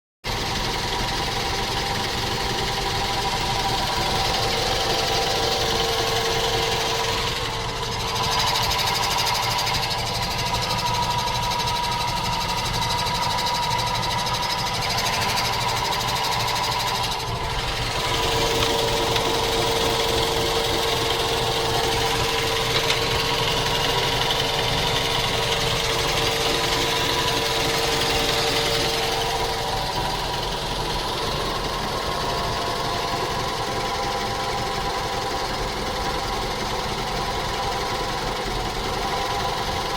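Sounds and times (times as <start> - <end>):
car engine running: 0.3 - 39.9
steady mechanical noise: 0.3 - 39.9.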